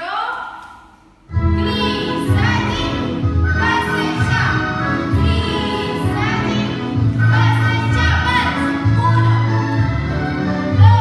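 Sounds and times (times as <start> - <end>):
bass line: 1.3 - 11.0
song with singing voices: 1.4 - 11.0.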